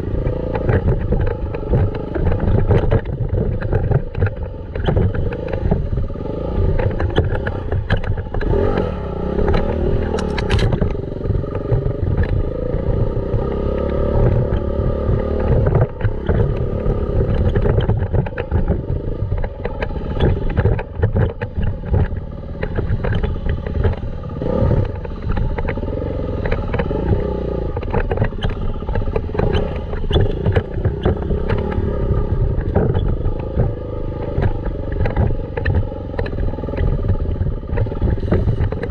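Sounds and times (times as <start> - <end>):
rumble on the microphone: 0.0 - 38.9
dirt bike engine revving: 5.1 - 38.9.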